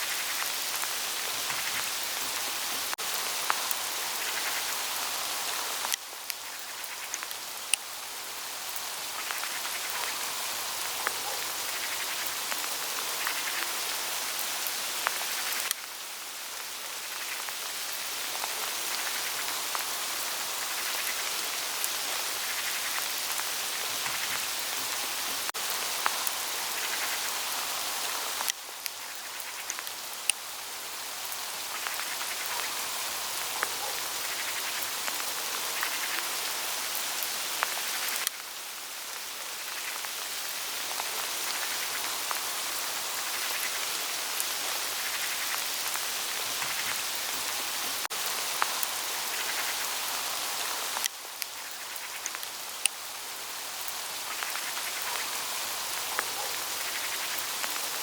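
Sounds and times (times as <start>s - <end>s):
hail pattering on foliage: 0.1s - 58.0s.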